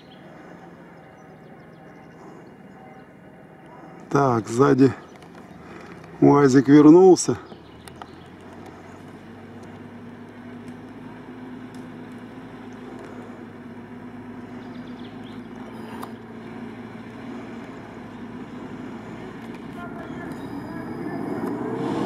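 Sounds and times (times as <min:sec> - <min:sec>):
jeep engine at low revs: 0:00.0 - 0:22.0.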